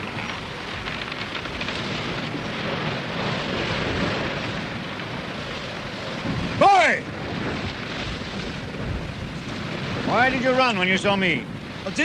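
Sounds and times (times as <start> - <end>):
wind and sea rushing: 0.0 - 12.0.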